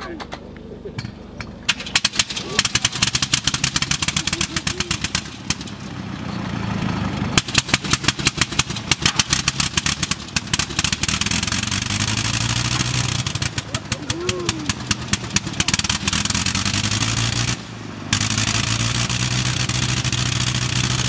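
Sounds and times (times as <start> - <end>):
rotary engine crackling pops: 0.0 - 6.1, 7.2 - 21.0.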